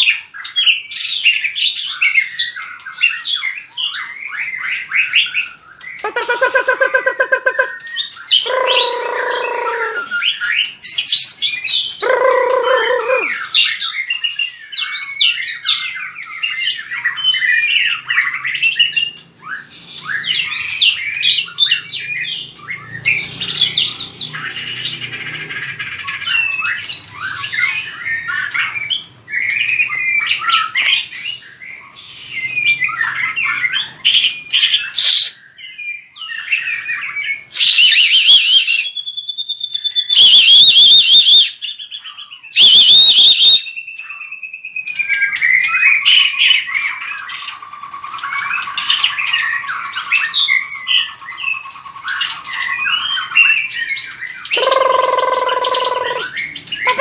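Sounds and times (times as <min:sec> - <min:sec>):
bird singing whistled phrases: 0:00.0 - 0:24.5, 0:26.2 - 0:57.0
harsh bird calls: 0:00.0 - 0:57.0.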